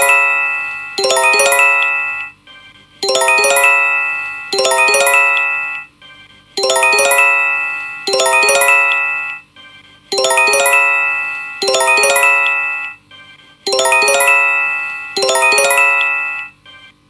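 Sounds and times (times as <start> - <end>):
electronic bell-like alarm chime: 0.0 - 2.4, 3.0 - 5.9, 6.6 - 9.5, 10.1 - 13.0, 13.7 - 16.6.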